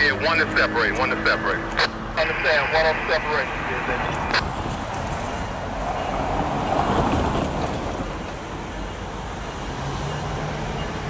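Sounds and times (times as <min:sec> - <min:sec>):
diesel locomotives idling: 0:00.0 - 0:11.0.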